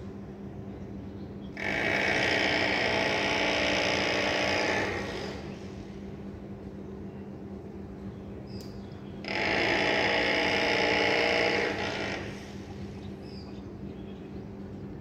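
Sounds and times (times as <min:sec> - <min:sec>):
loud steady buzz: 0:00.0 - 0:15.0
low city hum: 0:00.0 - 0:15.0.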